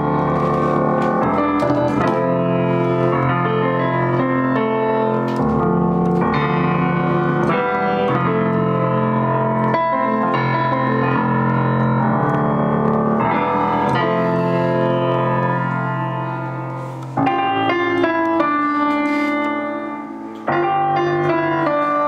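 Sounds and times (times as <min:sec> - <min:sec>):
piano keyboard music: 0:00.0 - 0:22.0.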